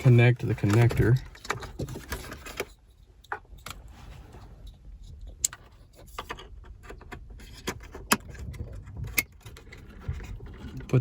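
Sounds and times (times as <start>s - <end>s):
light handling noises: 0.0s - 11.0s.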